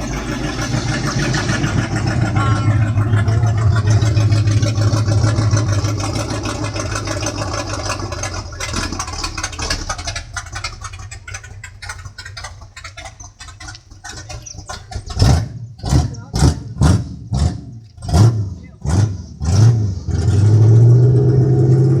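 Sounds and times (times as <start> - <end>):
engine idling: 0.0 - 20.2.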